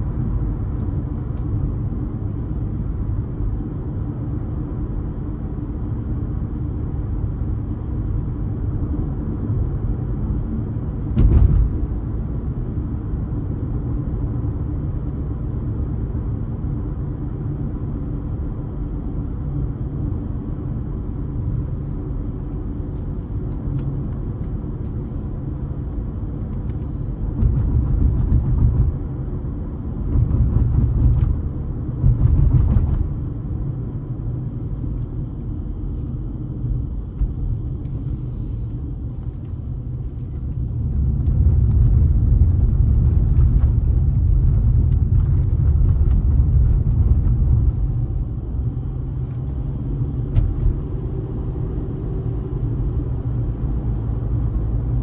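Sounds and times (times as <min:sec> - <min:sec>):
car tyres and engine rumble: 0:00.0 - 0:55.0.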